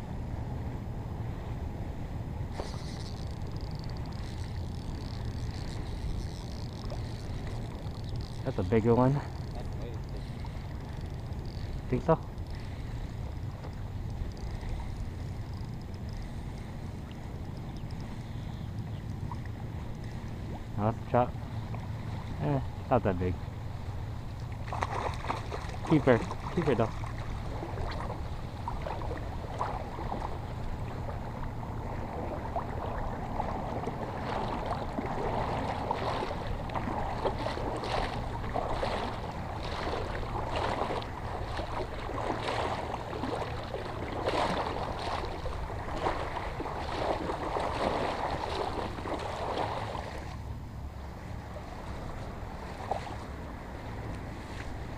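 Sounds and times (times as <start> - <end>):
wind rumble on microphone: 0.0 - 54.9
shallow water splashing: 2.5 - 50.6, 51.2 - 54.9.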